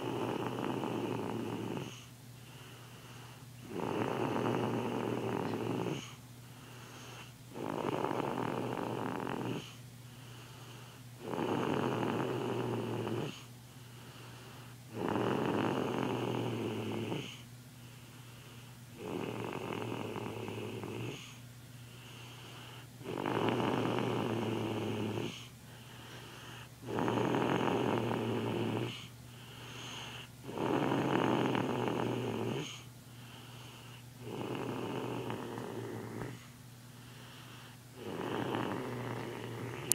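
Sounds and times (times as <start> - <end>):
child snoring: 0.0 - 9.8, 10.4 - 17.4, 19.0 - 21.4, 22.0 - 36.5, 37.1 - 39.9.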